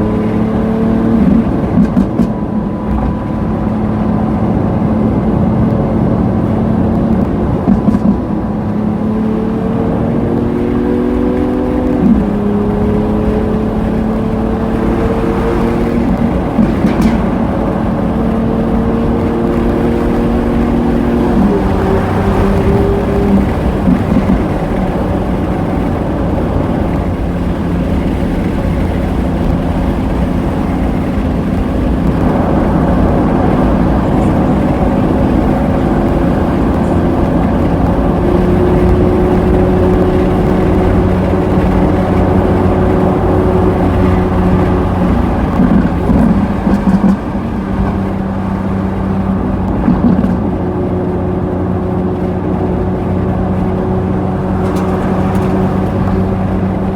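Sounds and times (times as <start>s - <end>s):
car engine droning: 0.0s - 56.9s.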